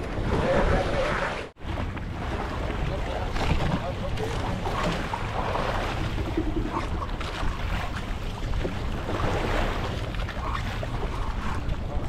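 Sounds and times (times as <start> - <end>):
water sloshing: 0.0 - 12.0.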